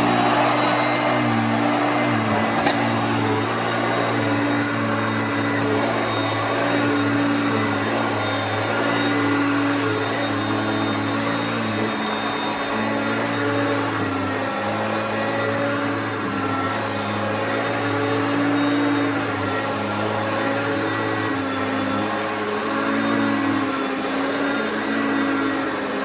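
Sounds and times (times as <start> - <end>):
vacuum cleaner on carpet: 0.0 - 26.0.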